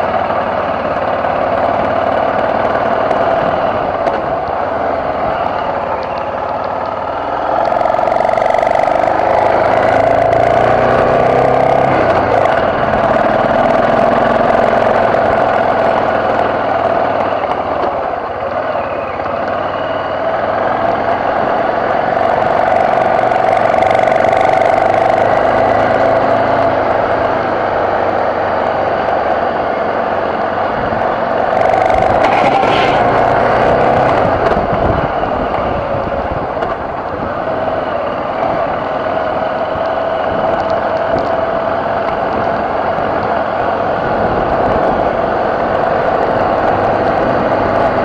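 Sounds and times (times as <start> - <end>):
motorcycle engine under load: 0.0 - 48.0.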